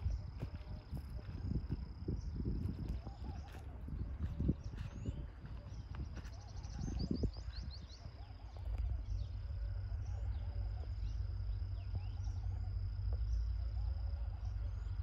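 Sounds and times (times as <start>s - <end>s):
constant low rumble: 0.0s - 15.0s
high insect drone: 0.0s - 15.0s.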